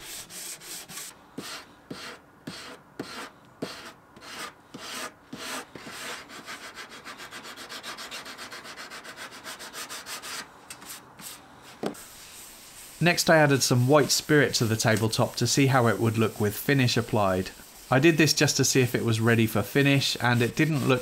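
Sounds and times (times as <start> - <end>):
sandpaper sanding wood: 0.0 - 21.0.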